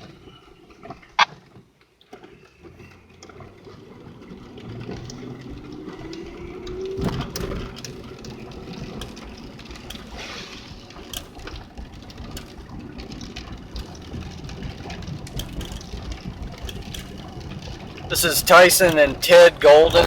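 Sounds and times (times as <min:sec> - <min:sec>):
car engine and road rumble: 0:00.0 - 0:20.0
small clicks and knocks: 0:00.7 - 0:18.1.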